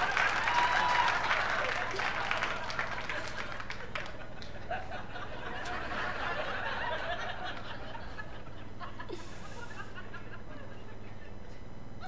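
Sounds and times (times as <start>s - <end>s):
audience laughing: 1.6s - 11.6s.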